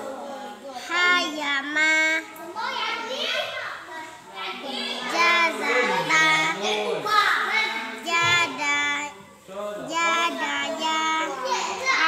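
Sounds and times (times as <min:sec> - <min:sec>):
boy chanting melodically: 0:00.0 - 0:12.0.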